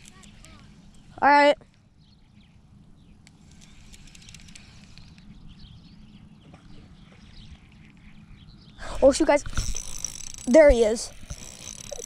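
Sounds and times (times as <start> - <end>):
wind rumbling on microphone: 2.0 - 12.0.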